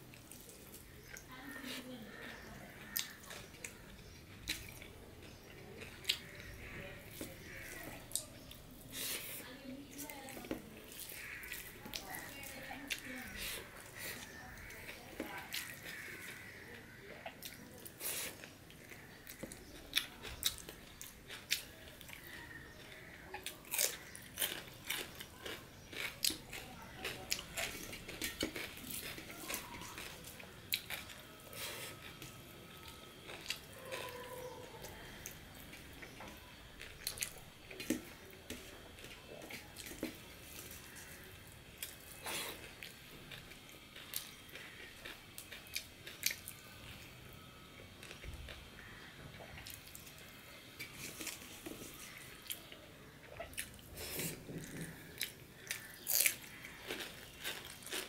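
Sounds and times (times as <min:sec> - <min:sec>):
man chewing with wet smacks: 0:02.2 - 0:47.1, 0:47.7 - 0:58.0.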